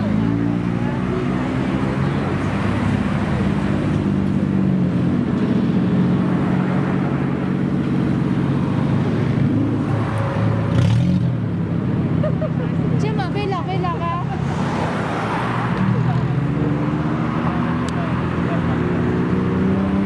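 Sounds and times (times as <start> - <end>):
car engine and exhaust: 0.0 - 20.0.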